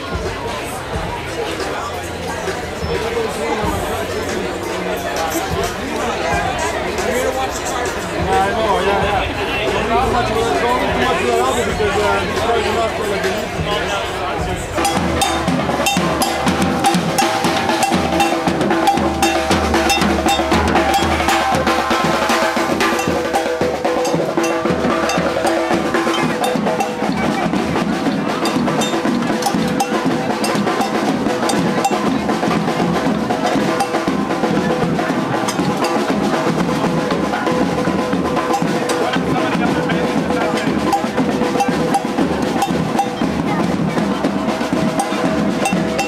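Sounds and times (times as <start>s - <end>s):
rapid drum hits: 8.0s - 46.0s.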